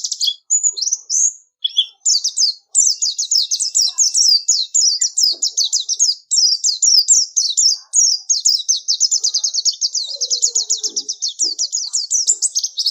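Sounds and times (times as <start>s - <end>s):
bird singing fast warble: 0.0s - 12.9s.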